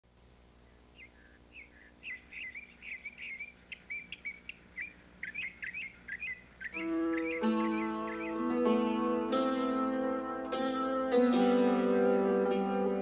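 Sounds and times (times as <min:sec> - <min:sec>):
bird chirping: 0:00.6 - 0:13.0.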